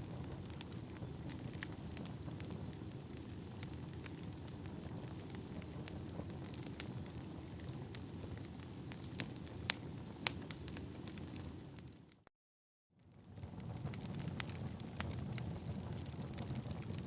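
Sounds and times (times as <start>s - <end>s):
fire popping and crackling: 0.0s - 12.2s, 13.1s - 17.0s
low rumble of flames: 0.0s - 12.2s, 13.0s - 17.0s.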